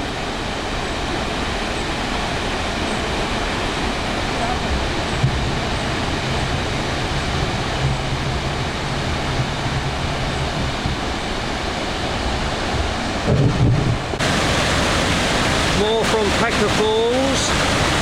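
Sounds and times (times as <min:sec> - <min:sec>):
waterfall rushing: 0:00.0 - 0:18.0
wind buffeting microphone: 0:00.2 - 0:18.0.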